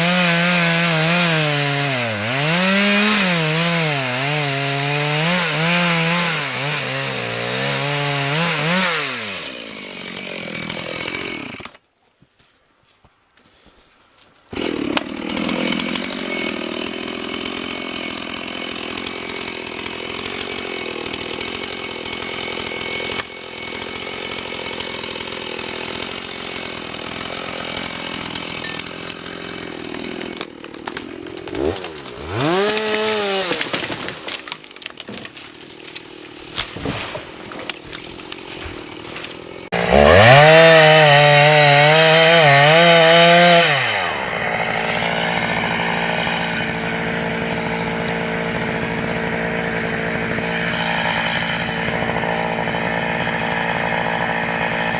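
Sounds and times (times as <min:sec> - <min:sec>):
chainsaw revving at high revs: 0:00.0 - 0:11.8, 0:14.5 - 0:34.5, 0:35.6 - 0:37.1, 0:38.2 - 0:54.9
chainsaw cutting through wood: 0:00.0 - 0:11.9, 0:14.5 - 0:54.9.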